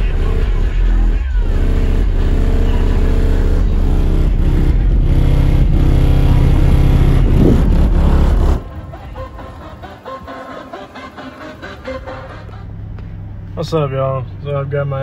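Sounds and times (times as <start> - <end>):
bass-heavy music: 0.0 - 15.0.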